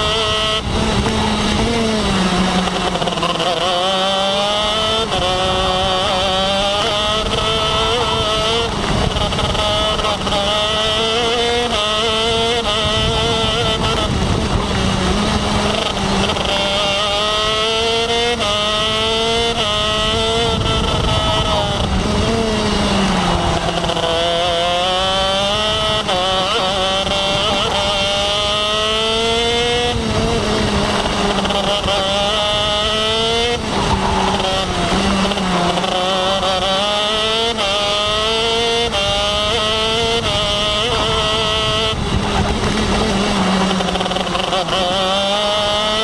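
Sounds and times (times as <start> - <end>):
kart engine revving through gears: 0.0 - 46.0.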